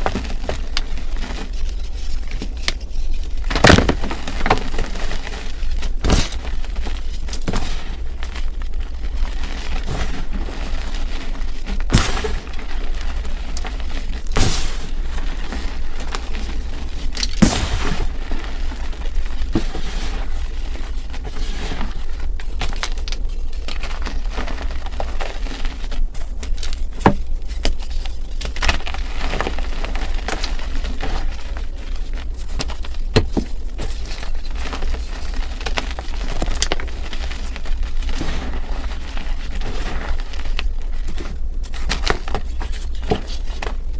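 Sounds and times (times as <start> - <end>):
chalk crushing and crackling: 0.0 - 43.9
low steady hum: 0.0 - 43.9.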